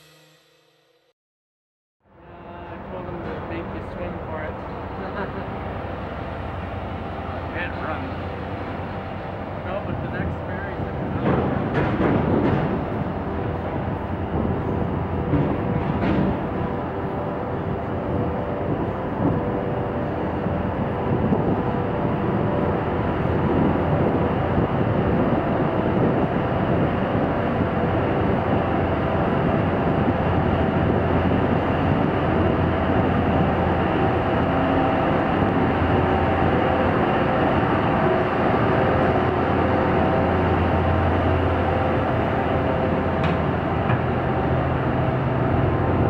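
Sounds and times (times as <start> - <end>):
ship engines droning: 2.1 - 46.0.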